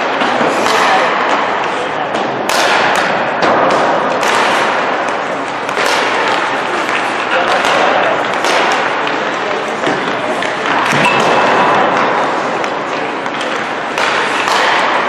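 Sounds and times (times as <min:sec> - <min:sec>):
sticks and pucks knocking: 0:00.0 - 0:15.0.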